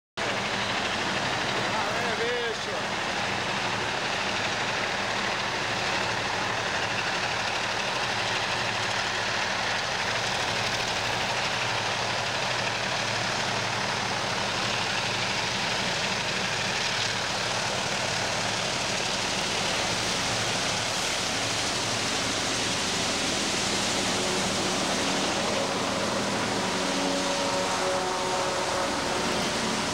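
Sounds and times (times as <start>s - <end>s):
diesel locomotives passing: 0.2s - 29.9s.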